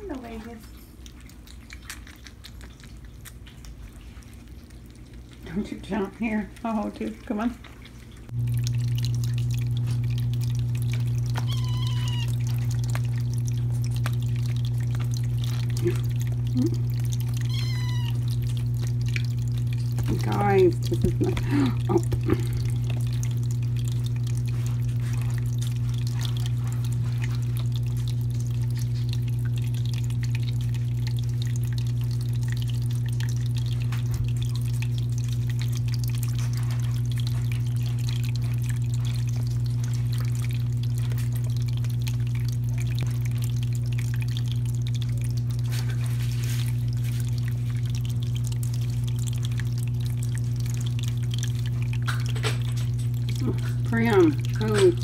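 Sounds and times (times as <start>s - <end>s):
small pump humming: 0.0s - 55.0s
water trickling: 0.0s - 55.0s.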